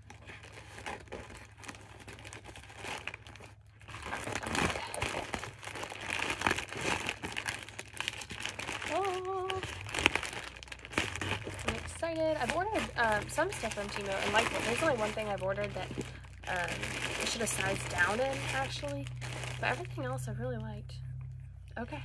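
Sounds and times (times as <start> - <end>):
packaging crinkling and tearing: 0.0 - 20.3.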